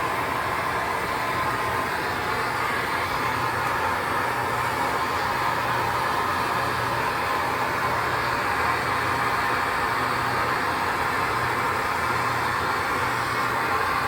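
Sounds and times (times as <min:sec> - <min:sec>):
torch flame hissing: 0:00.0 - 0:14.0.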